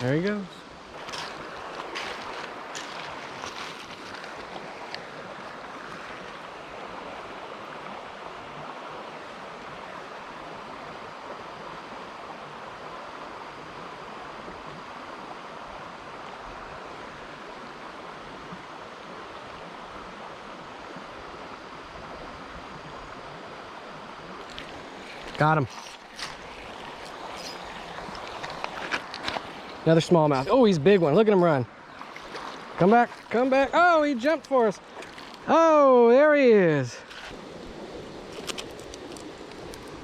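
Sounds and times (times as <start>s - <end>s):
creek water running over rocks: 0.0s - 40.0s.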